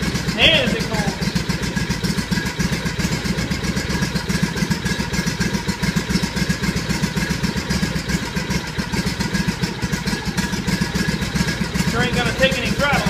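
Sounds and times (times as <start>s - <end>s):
small engine running unevenly: 0.0s - 13.0s.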